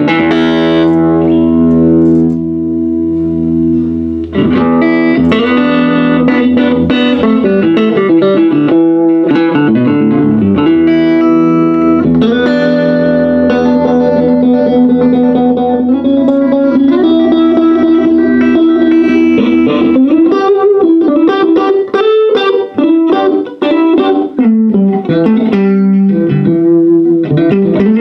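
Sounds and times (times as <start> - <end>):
electric guitar chords and notes: 0.0 - 28.0.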